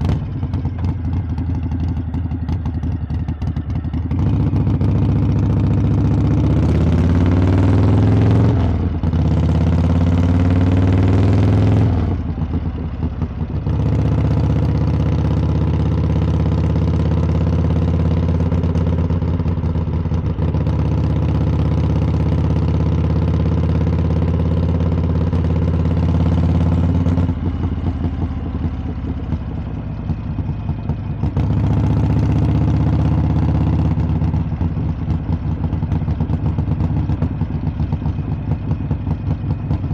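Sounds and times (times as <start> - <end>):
motorcycle exhaust while riding: 0.0 - 39.9.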